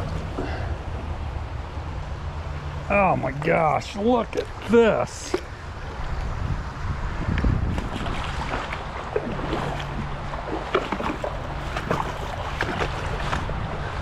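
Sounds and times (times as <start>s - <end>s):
steady low rumble: 0.0s - 14.0s
water splashing in a creek: 2.4s - 14.0s.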